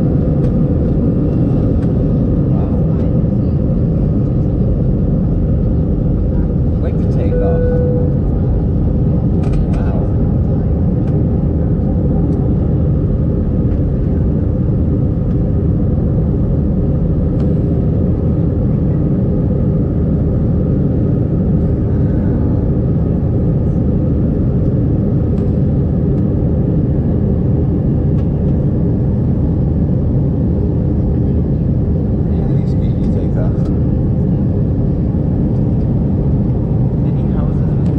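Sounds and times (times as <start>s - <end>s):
jet airliner cabin noise: 0.0s - 37.9s.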